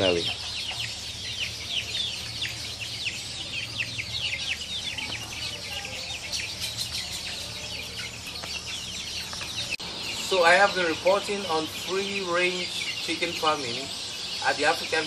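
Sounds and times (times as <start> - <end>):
chickens peeping: 0.0 - 15.0.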